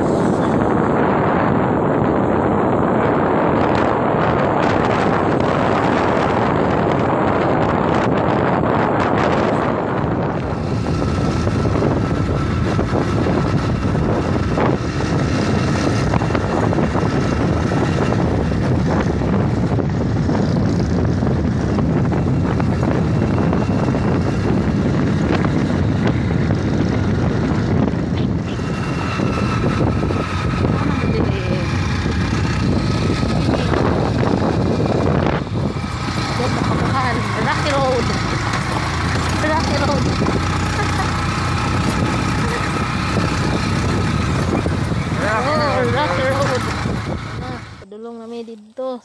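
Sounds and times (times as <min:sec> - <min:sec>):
small motorcycle running: 0:00.0 - 0:47.9
wind rushing over microphone: 0:00.0 - 0:48.3.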